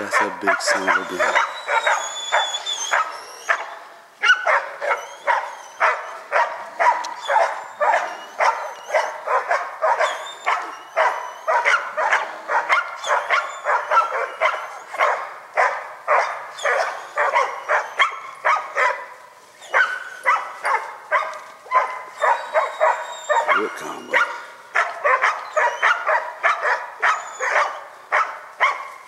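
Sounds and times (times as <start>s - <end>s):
dog barking: 0.0s - 29.0s.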